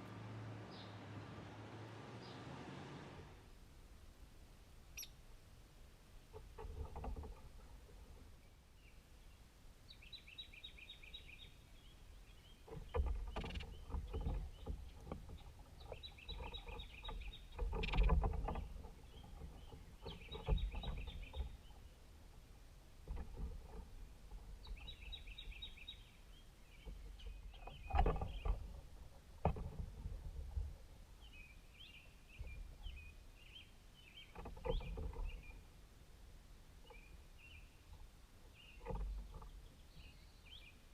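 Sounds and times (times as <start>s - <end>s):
songbird singing: 0.0s - 3.6s, 4.6s - 40.9s.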